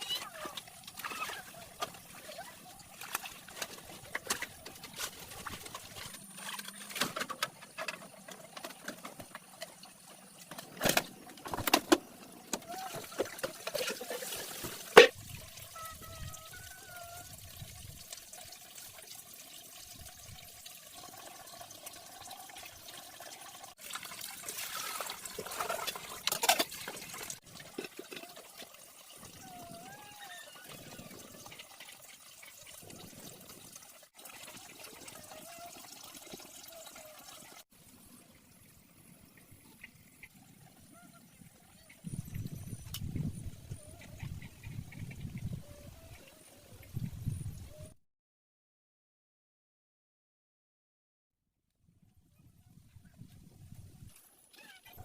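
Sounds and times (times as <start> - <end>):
water trickling and splashing: 0.0 - 47.8.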